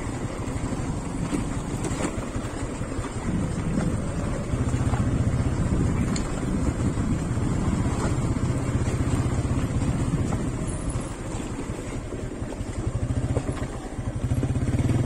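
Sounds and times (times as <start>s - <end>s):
motorcycle engine running at low speed: 0.0s - 15.0s.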